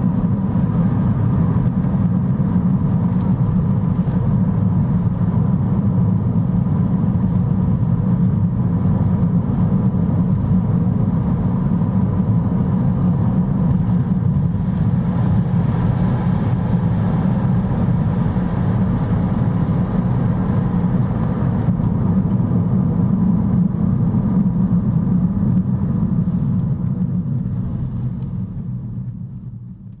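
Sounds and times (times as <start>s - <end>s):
low road rumble of a car: 0.0s - 30.0s.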